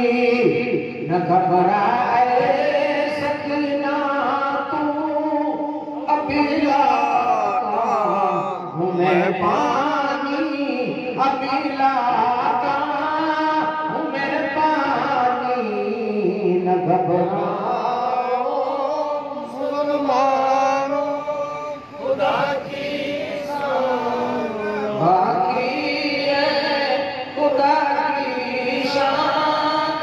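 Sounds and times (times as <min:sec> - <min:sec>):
man chanting: 0:00.0 - 0:30.0.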